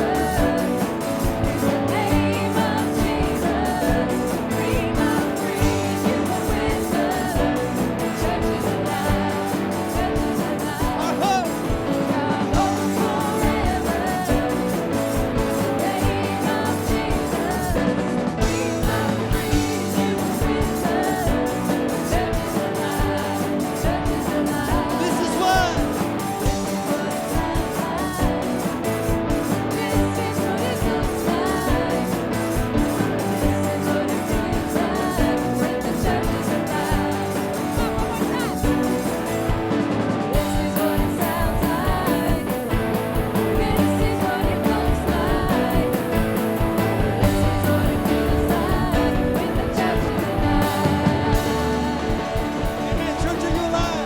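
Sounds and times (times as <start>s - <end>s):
worship band with singing: 0.0s - 54.0s.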